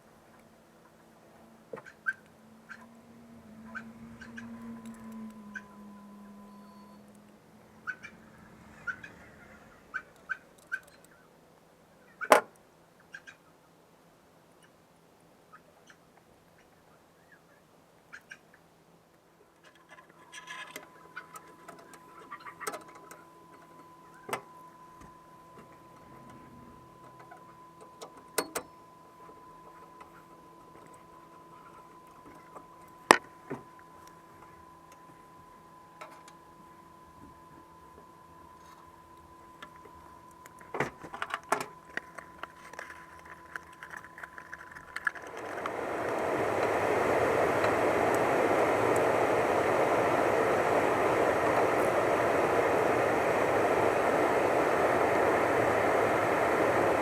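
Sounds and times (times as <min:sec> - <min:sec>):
low hum: 0:00.2 - 0:10.3, 0:20.2 - 0:57.0.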